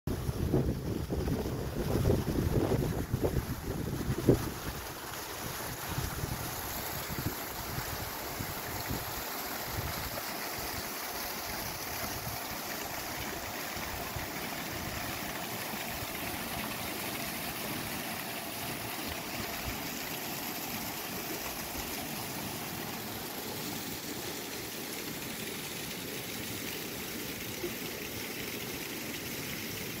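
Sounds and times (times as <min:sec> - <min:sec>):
waterfall rushing over boulders: 0:00.3 - 0:30.0.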